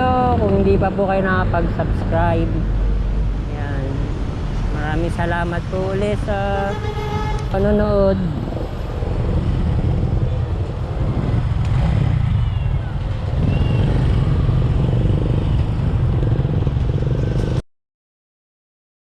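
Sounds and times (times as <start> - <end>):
road traffic rumble: 0.0 - 17.6.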